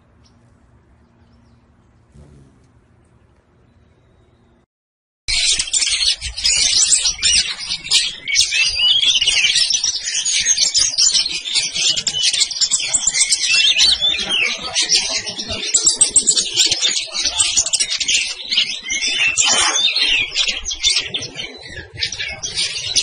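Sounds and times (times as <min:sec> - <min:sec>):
sunbirds twittering: 0:00.0 - 0:04.7, 0:05.3 - 0:23.0.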